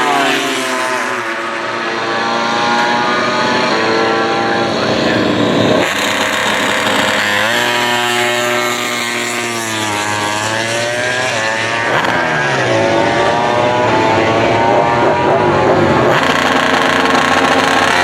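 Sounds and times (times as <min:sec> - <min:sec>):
racing motorcycles passing: 0:00.0 - 0:18.0.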